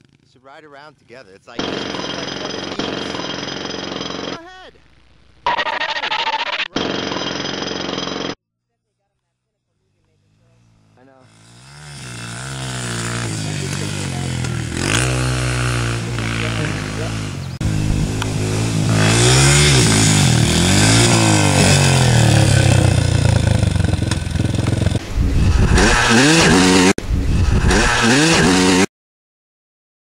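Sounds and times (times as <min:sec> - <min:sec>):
dirt bike engine revving: 0:01.5 - 0:04.6, 0:05.4 - 0:08.4, 0:10.2 - 0:28.9.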